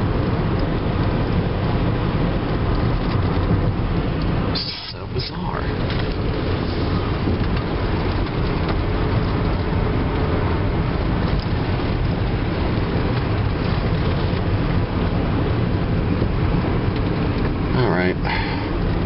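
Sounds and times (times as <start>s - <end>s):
car engine running: 0.0s - 19.0s
road and tyre noise: 0.0s - 19.0s.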